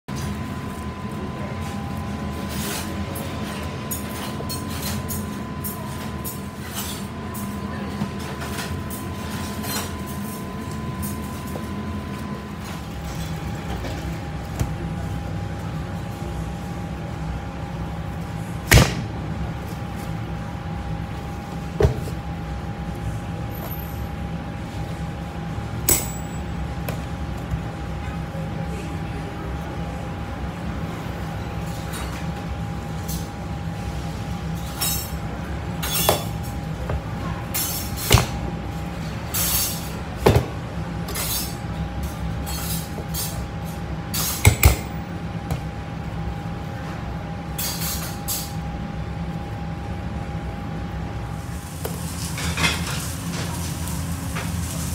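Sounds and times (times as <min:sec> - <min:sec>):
kitchen extractor hood hum: 0:00.1 - 0:54.9.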